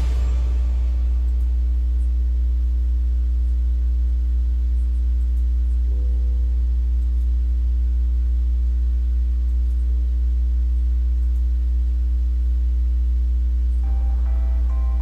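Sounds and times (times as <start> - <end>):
faint sustained tones: 0.0 - 11.0, 13.0 - 15.0
deep drone music: 0.0 - 11.3, 12.2 - 15.0.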